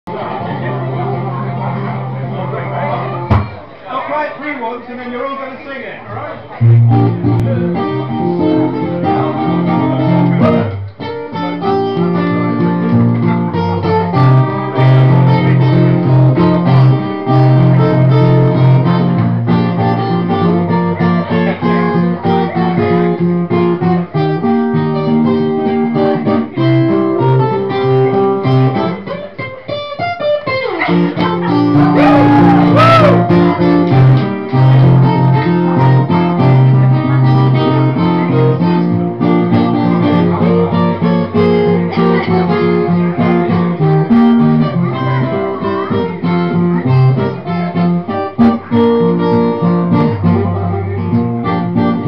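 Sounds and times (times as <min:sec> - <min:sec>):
guitar plucked and strummed: 0:00.1 - 0:03.7, 0:06.5 - 0:52.0.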